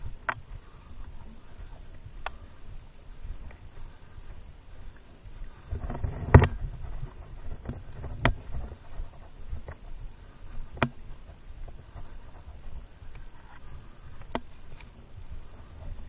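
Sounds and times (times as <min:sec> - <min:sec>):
rustling and handling noise: 0:00.0 - 0:16.0.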